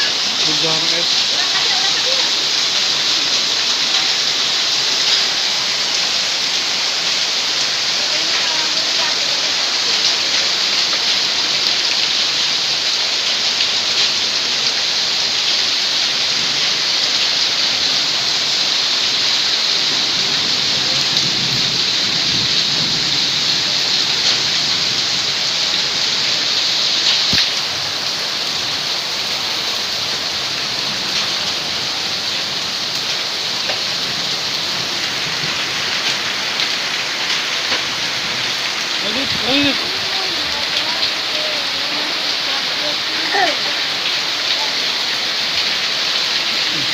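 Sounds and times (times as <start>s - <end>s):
hail and heavy rain pelting: 0.0s - 46.9s.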